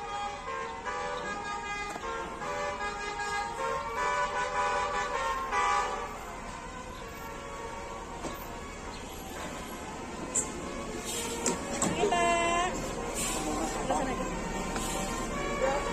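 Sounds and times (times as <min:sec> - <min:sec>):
multi-tone air horn tune: 0:00.0 - 0:15.9.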